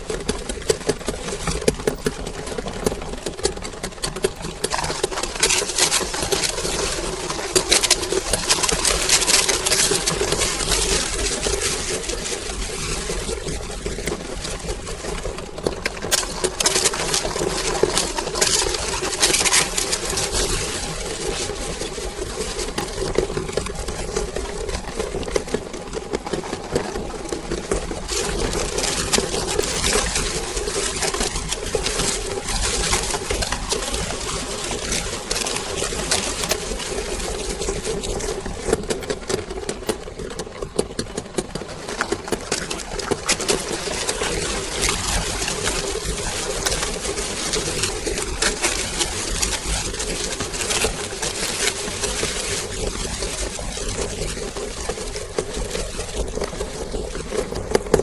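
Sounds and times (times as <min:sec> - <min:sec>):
wafer cones crunching and crackling: 0:00.0 - 0:58.0.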